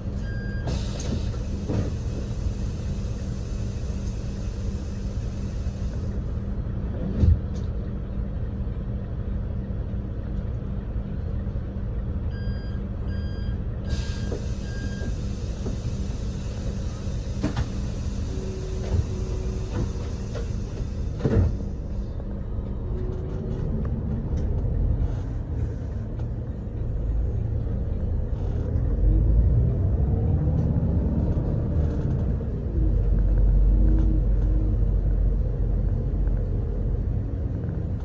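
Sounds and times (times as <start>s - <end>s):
vehicle rumble from inside: 0.0s - 38.0s.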